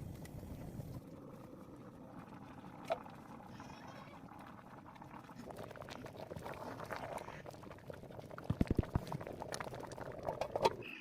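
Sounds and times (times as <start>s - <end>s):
liquid bubbling: 0.0s - 11.0s
small crackles: 0.0s - 11.0s.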